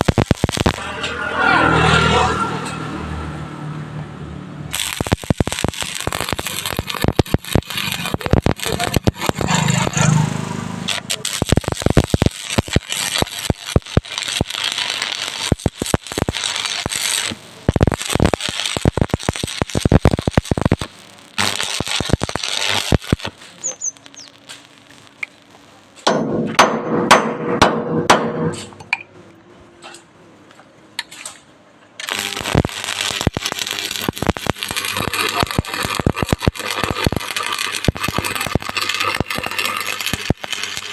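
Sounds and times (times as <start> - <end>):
arc welding crackling: 0.0 - 3.5, 4.6 - 27.0, 32.0 - 40.9.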